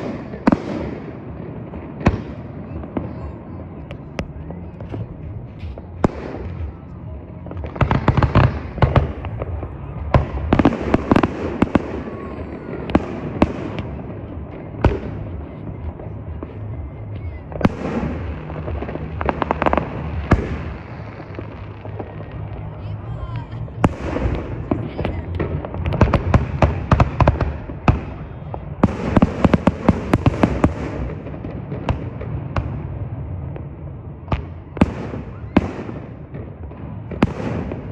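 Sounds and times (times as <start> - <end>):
fireworks bangs and cracks: 0.0 - 37.9
low rumble: 0.2 - 37.9.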